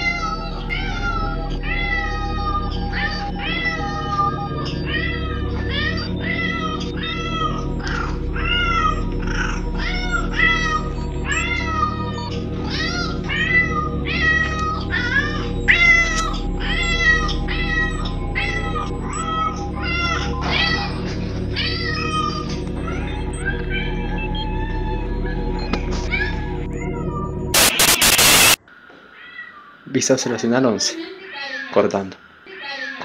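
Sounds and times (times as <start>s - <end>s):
cat meowing: 0.0s - 28.6s, 29.2s - 29.8s
low music drone: 0.0s - 28.6s.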